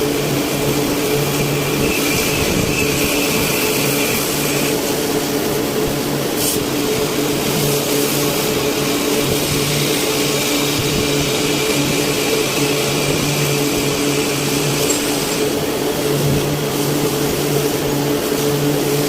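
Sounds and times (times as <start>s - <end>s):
high machine whine: 0.0s - 19.0s
machine humming: 0.0s - 19.0s.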